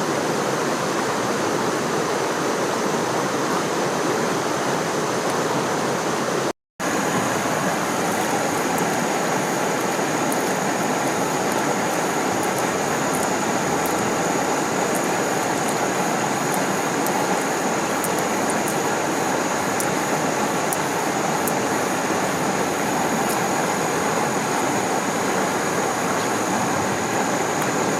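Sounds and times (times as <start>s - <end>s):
stream water rushing: 0.0s - 27.9s.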